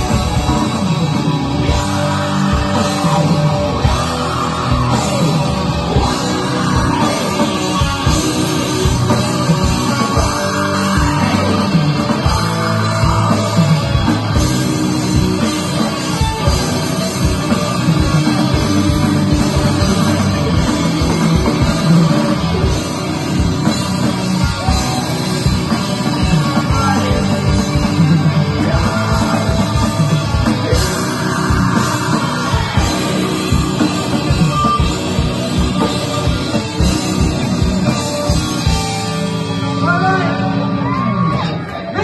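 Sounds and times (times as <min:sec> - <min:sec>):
vocalist singing: 0:00.0 - 0:38.3
bass guitar: 0:00.0 - 0:42.0
distorted electric guitars: 0:00.0 - 0:42.0.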